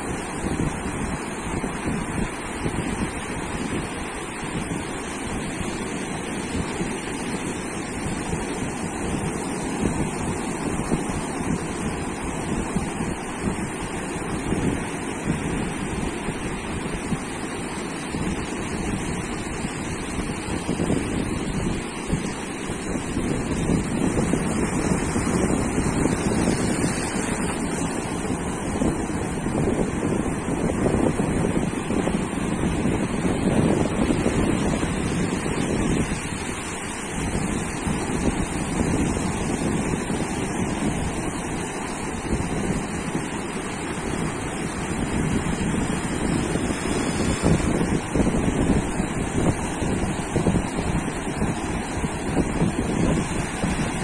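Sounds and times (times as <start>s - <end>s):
ocean surf breaking on beach: 0.0s - 54.0s
wind buffeting microphone: 0.0s - 54.0s.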